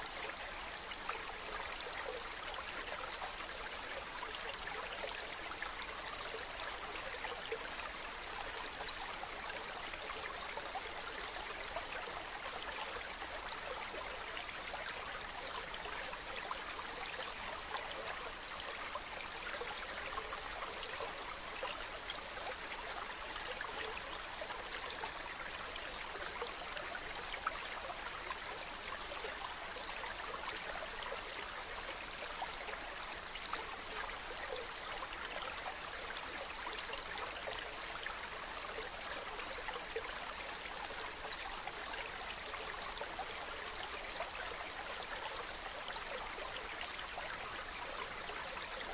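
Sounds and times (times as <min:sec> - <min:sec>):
stream water over rocks: 0:00.0 - 0:48.9.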